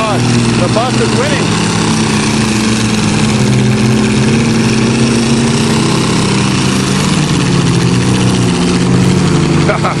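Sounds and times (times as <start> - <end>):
straining engines droning: 0.0 - 10.0.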